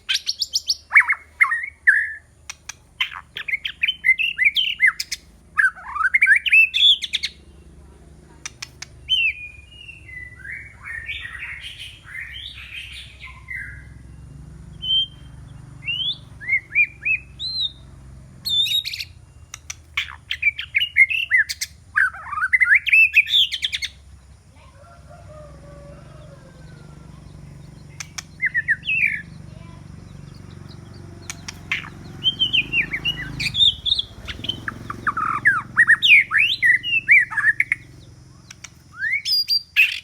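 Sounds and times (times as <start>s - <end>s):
bird singing whistled phrases: 0.0s - 2.3s, 3.0s - 7.5s, 8.5s - 24.0s, 27.5s - 40.0s
sharp bird clicks: 0.0s - 7.4s, 8.3s - 13.9s, 14.7s - 24.2s, 26.2s - 40.0s.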